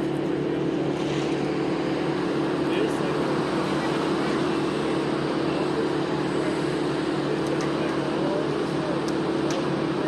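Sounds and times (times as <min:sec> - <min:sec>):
heavy machinery engine droning: 0:00.0 - 0:10.0.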